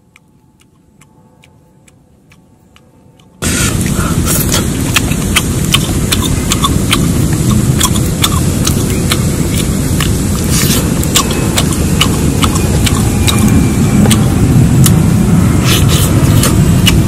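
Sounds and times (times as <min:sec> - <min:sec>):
crunching and chewing: 0:00.0 - 0:17.0
low steady rumble: 0:00.0 - 0:17.0.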